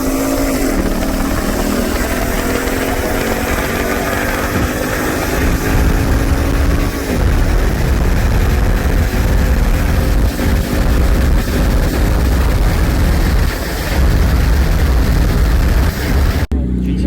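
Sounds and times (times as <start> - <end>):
wind rumble on microphone: 0.0 - 16.5
car engines: 0.0 - 17.0
road noise: 0.0 - 17.0.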